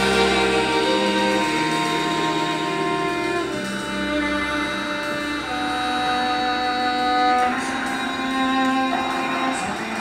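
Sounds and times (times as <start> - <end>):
string and keyboard ensemble: 0.0 - 10.0.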